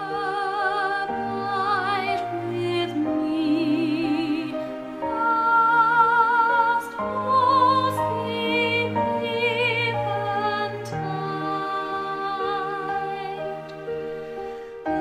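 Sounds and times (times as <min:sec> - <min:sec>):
soprano singing: 0:00.0 - 0:15.0.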